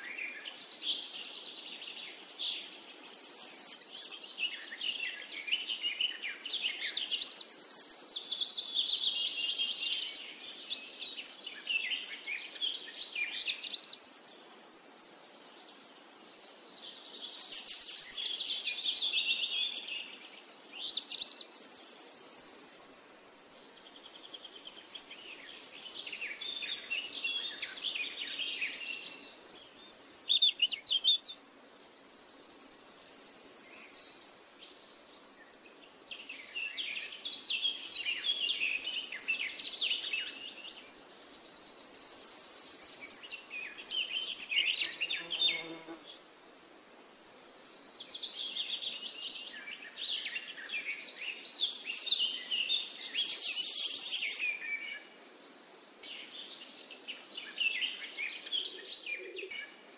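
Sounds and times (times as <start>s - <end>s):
songbirds chirping and singing: 0.0s - 23.0s, 23.6s - 46.2s, 47.0s - 59.9s.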